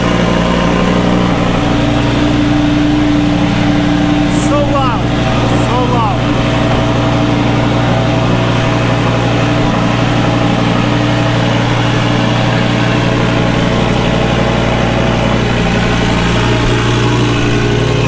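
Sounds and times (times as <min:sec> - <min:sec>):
car engine idling loudly: 0:00.0 - 0:18.0.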